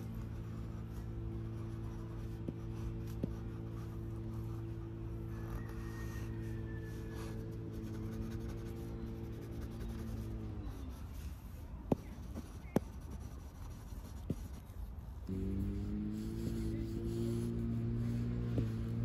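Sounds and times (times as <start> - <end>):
pencil scratching on paper: 0.0 - 14.7, 15.4 - 19.0.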